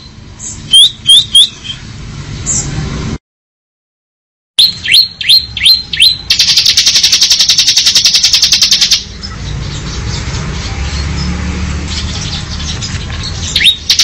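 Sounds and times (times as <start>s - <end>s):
bird singing with trill: 0.0s - 1.9s, 4.6s - 14.0s.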